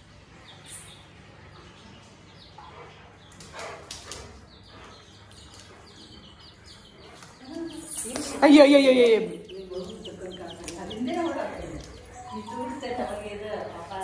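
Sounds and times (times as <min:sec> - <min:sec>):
chicks peeping: 0:00.4 - 0:14.0.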